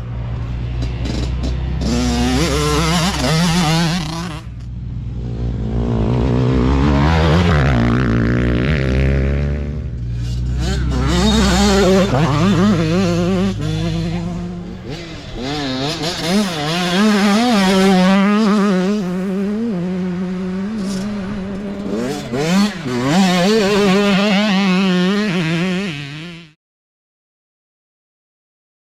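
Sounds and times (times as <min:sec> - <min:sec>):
dirt bike engines revving: 0:00.0 - 0:26.6.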